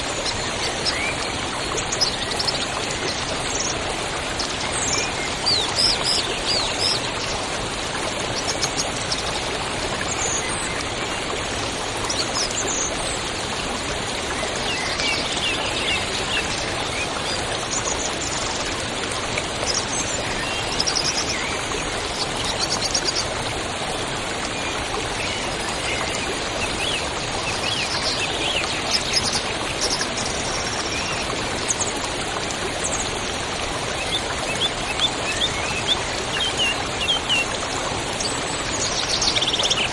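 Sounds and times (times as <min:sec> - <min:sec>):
river running: 0:00.0 - 0:39.9.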